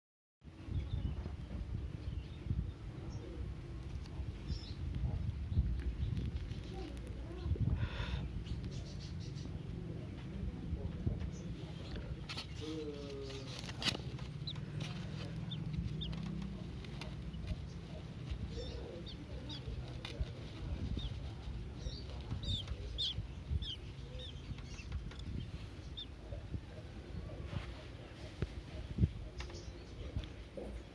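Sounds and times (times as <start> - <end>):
nestlings chirping: 2.0 - 9.8, 11.0 - 30.9.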